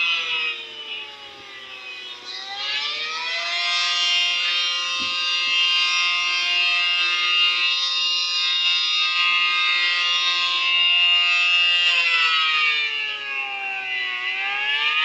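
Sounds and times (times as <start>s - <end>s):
electronic warning siren: 0.0s - 15.0s.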